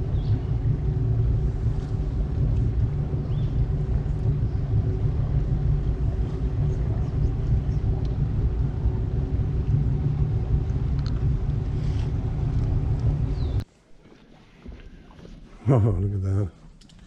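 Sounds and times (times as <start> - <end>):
boat engine droning: 0.0 - 16.8.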